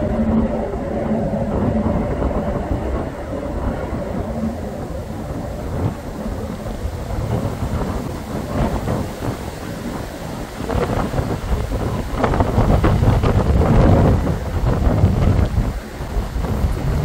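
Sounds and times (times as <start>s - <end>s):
churning water: 0.0s - 17.0s
engine hum: 0.0s - 17.0s
ferry engine low rumble: 0.0s - 17.0s.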